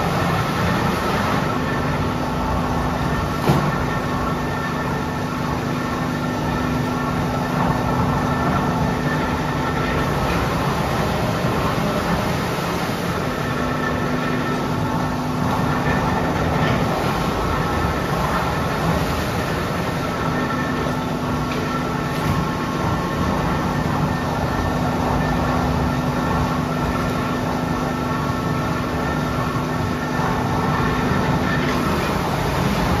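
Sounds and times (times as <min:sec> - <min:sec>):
constant hum: 0:00.0 - 0:33.0
machinery rumble: 0:00.0 - 0:33.0.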